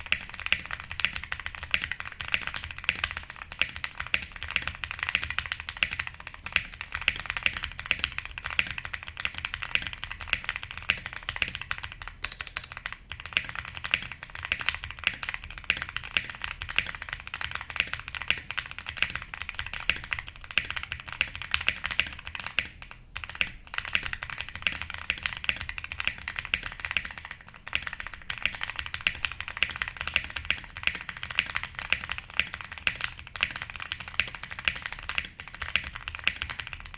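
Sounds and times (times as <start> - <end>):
typing on mechanical keyboard: 0.0 - 36.9.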